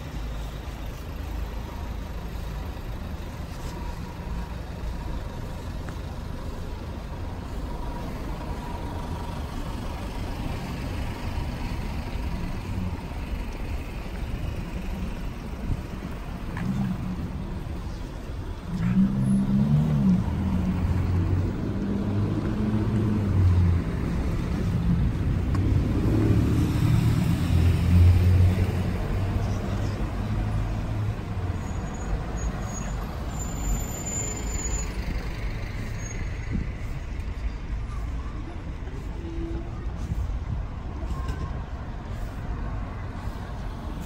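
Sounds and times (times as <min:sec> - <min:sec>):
large vehicle engine rumble: 0:00.0 - 0:44.0.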